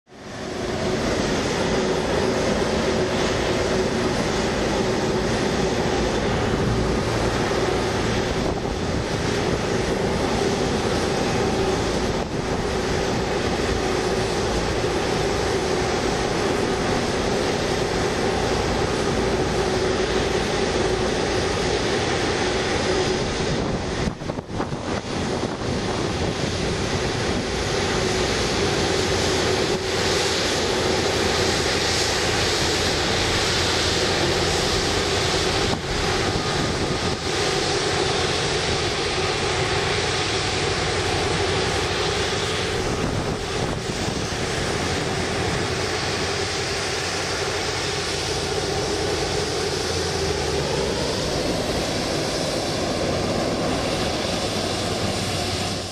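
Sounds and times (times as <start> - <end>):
jet engines whining: 0.1 - 55.9.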